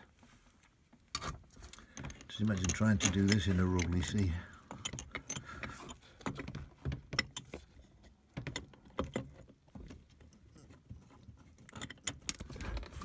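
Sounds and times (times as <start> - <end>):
metal parts clicking and tapping: 1.1 - 10.8, 11.5 - 13.0.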